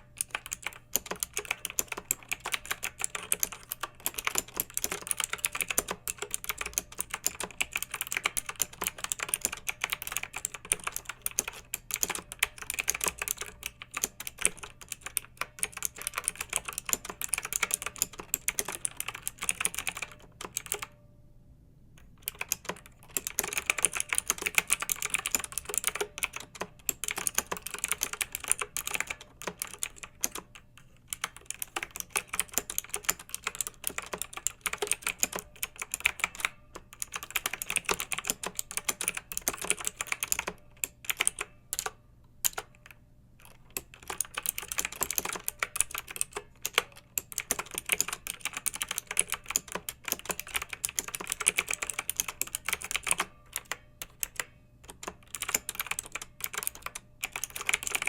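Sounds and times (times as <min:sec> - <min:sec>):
typing on mechanical keyboard: 0:00.0 - 0:21.0, 0:22.0 - 0:58.0.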